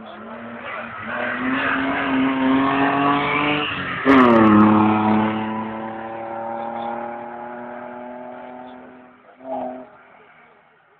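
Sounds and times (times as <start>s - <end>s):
car engine speeding by: 0.0s - 10.0s.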